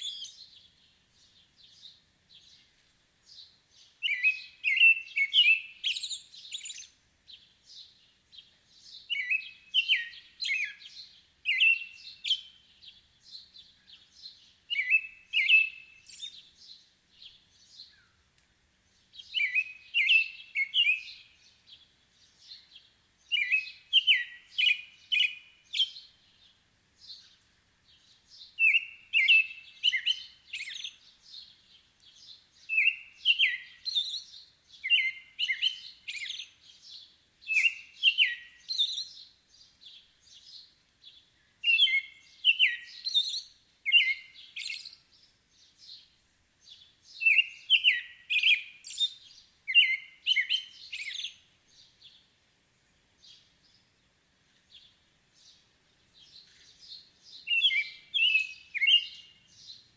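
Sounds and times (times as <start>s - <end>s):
bird chirping: 0.0s - 18.2s, 18.9s - 59.9s.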